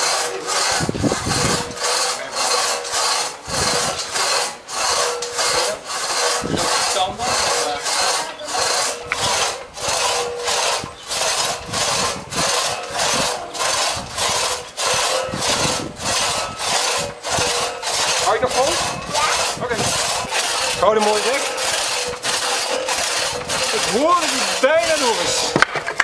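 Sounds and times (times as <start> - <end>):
crosscut saw rasping through log: 0.0 - 26.0.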